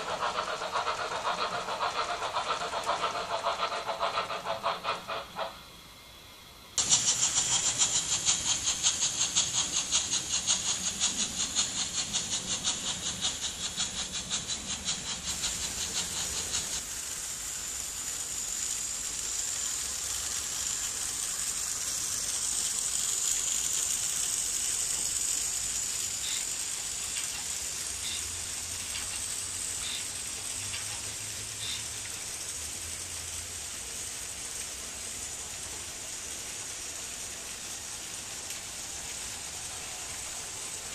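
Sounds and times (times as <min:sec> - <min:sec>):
model wagons rolling on track: 0:00.0 - 0:05.6, 0:06.8 - 0:40.9
model steam locomotive chuffing: 0:00.0 - 0:40.9
steady steam hiss: 0:00.0 - 0:40.9.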